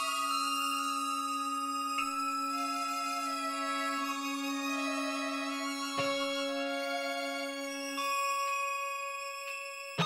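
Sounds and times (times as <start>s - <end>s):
low sustained note: 0.0s - 9.4s.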